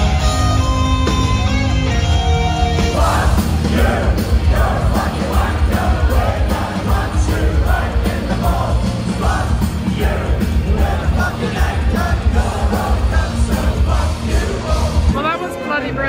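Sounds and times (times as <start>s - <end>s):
drums driving beat: 0.0s - 15.4s
live metal band playing: 0.0s - 16.0s.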